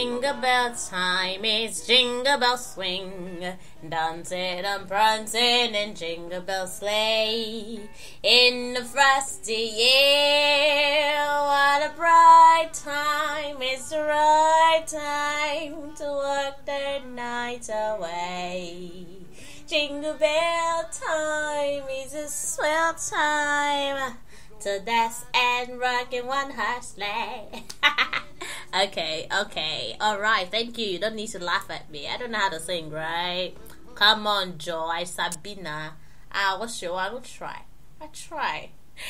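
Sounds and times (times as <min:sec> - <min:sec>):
woman singing: 0:00.0 - 0:38.7.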